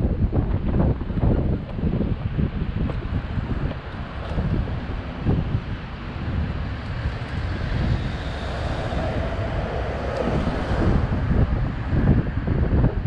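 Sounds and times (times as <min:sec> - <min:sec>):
road and traffic rumble: 0:00.0 - 0:13.0
wind buffeting microphone: 0:00.0 - 0:13.0.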